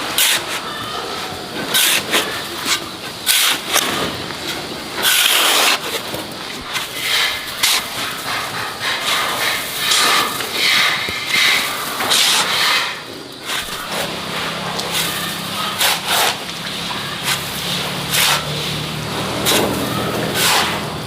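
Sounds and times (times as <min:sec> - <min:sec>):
banana leaves rustling: 0:00.0 - 0:21.0.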